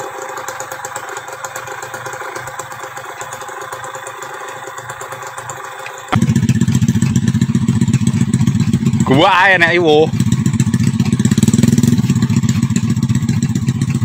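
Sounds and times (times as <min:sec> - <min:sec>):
loud close motorcycle engine: 0:00.0 - 0:14.0
small motorcycle engine running: 0:00.0 - 0:14.0.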